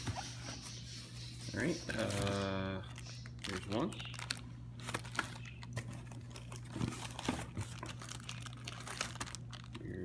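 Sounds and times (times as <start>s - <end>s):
packaging crinkling and rustling: 1.9s - 10.0s.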